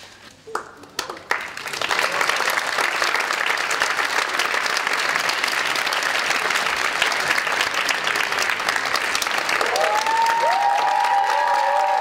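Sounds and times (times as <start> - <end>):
audience applauding: 0.6 - 12.0.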